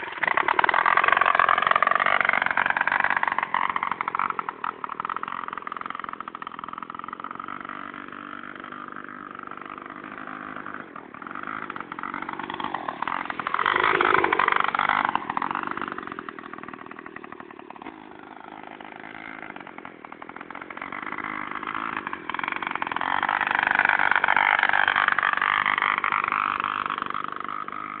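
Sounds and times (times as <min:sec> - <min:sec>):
two-stroke engine running: 0:00.0 - 0:28.0.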